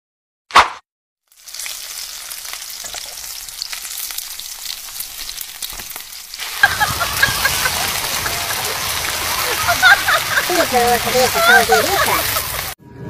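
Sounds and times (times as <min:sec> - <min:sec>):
pork sizzling on grill plate: 0:01.3 - 0:12.8.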